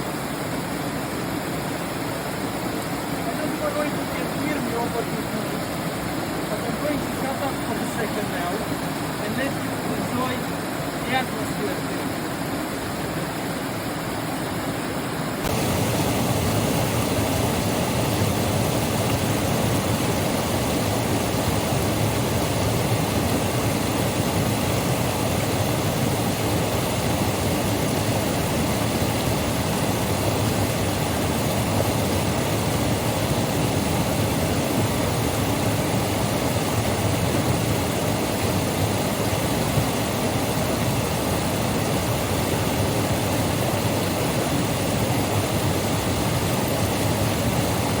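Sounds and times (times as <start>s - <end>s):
rush of falling water: 0.0s - 48.0s.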